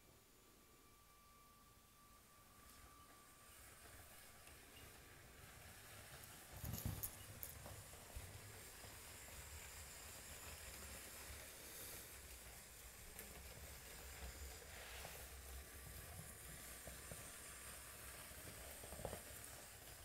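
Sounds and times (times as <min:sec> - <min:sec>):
toy train running on plastic track: 0:02.6 - 0:20.0.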